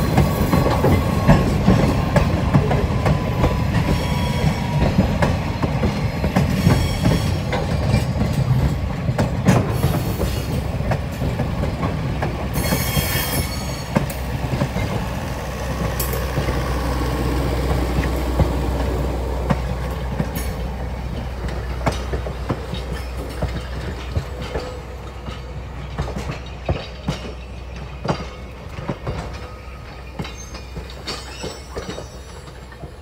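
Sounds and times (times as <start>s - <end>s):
train wheels rumbling on rails: 0.0s - 33.0s
wheels clicking over rail joints: 0.0s - 33.0s.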